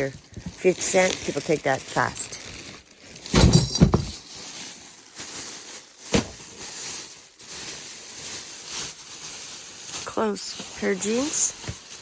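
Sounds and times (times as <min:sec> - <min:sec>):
clothes and bags rustling: 0:00.0 - 0:12.0.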